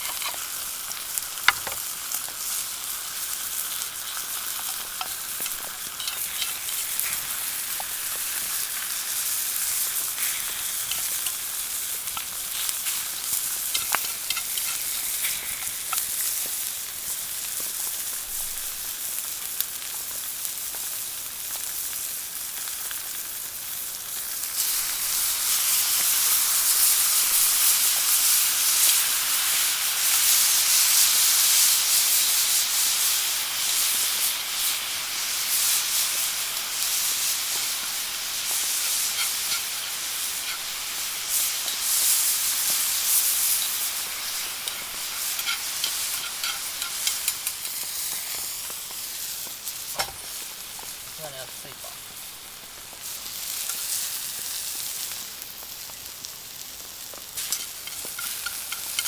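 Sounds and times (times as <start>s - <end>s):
food sizzling in a pan: 0.0s - 59.0s
oil popping and crackling: 0.0s - 59.0s.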